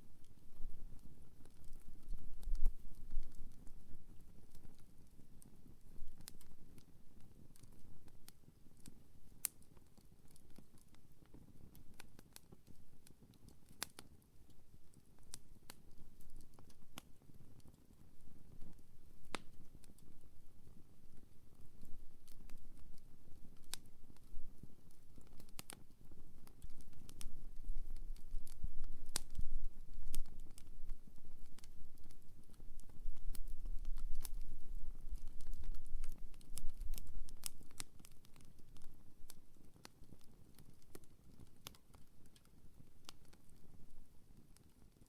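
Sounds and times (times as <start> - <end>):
campfire crackling: 0.0 - 45.0
low rumble of fire: 0.0 - 45.0.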